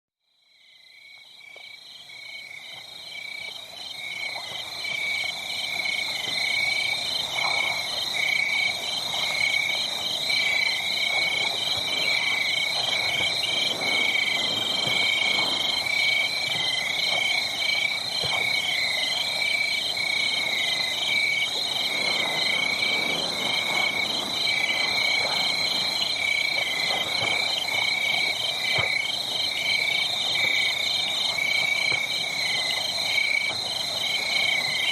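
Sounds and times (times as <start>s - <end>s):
night insects trilling: 0.4s - 34.9s
wood fire crackling: 5.8s - 34.9s.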